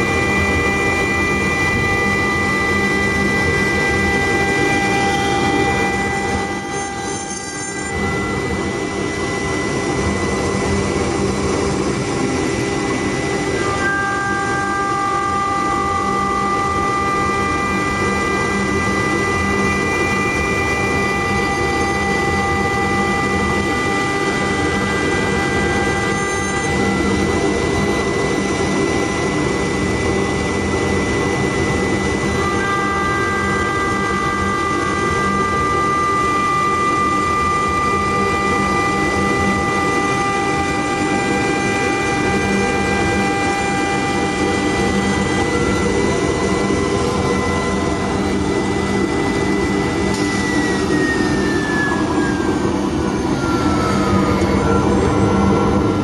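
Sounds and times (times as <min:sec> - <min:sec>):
higher machine tones: 0:00.0 - 0:56.0
wood lathe whining: 0:00.0 - 0:56.0.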